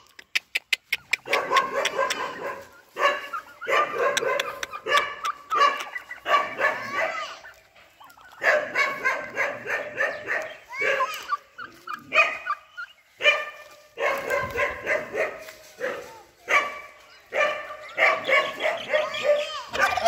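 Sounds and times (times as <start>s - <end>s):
turkeys gobbling: 0.0s - 20.0s.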